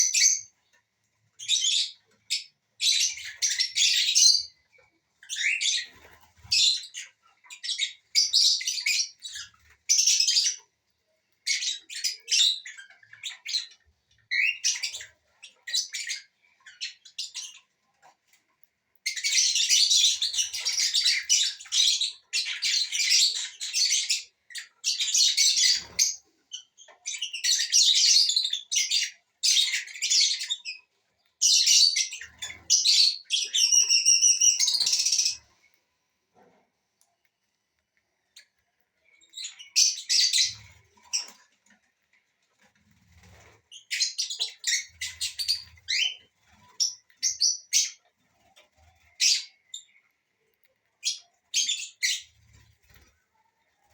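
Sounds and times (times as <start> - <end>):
parrots chirping and squawking: 0.0 - 37.3, 38.0 - 53.9.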